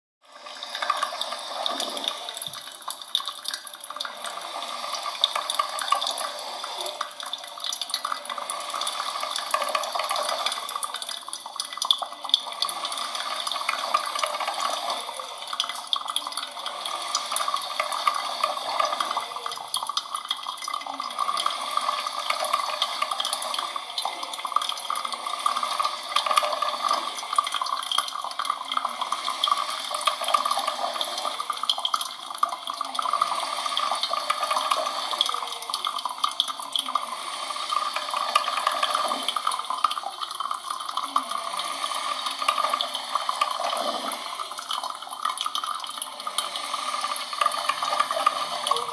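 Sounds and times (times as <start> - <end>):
coffee machine running water: 0.2 - 48.9.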